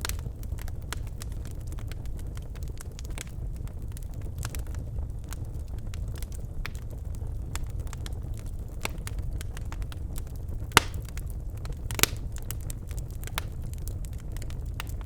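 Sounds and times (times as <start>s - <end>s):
logs crackling in fireplace: 0.0s - 15.0s
loud pops of fire: 0.0s - 15.0s.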